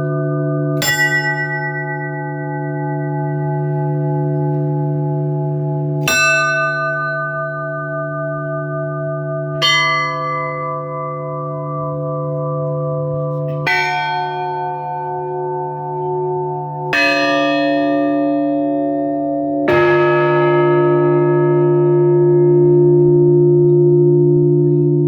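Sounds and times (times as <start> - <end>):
church bell tolling: 0.0 - 25.0
low bell hum: 0.0 - 25.0.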